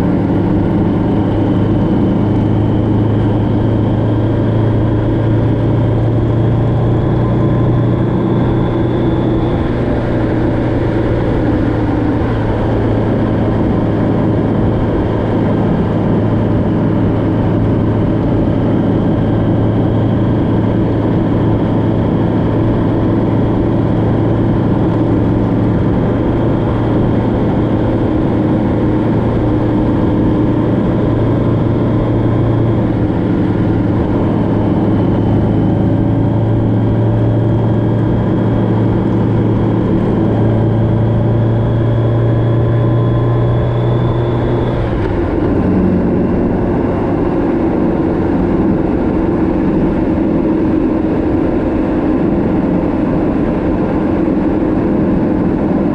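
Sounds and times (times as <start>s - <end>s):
vehicle engine hum: 0.0s - 55.9s.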